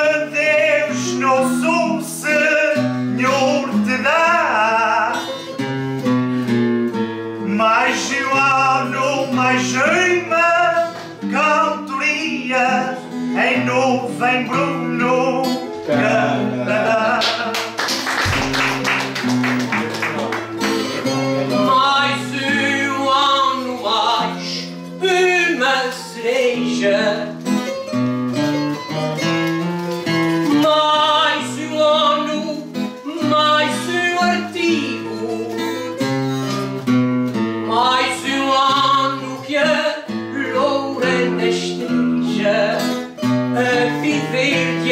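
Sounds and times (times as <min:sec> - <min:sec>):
person singing: 0:00.0 - 0:05.7, 0:07.3 - 0:28.0, 0:28.6 - 0:36.6, 0:37.6 - 0:44.9
plucked string accompaniment: 0:00.0 - 0:44.9
strummed string instrument: 0:00.0 - 0:44.9.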